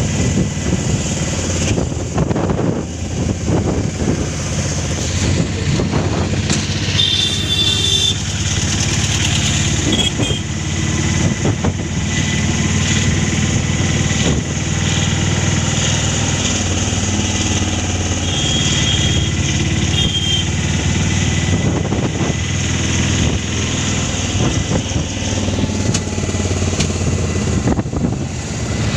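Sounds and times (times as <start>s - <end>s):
road or wind noise: 0.0s - 28.9s
vehicle engine humming: 0.0s - 28.9s.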